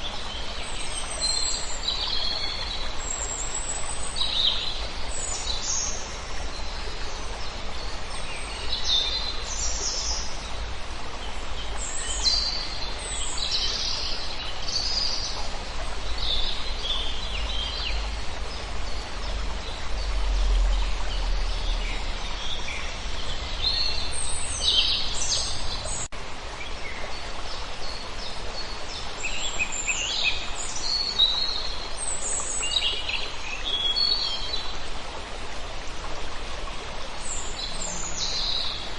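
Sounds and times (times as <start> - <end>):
flowing water: 0.0 - 38.9
songbirds chirping: 0.0 - 38.9.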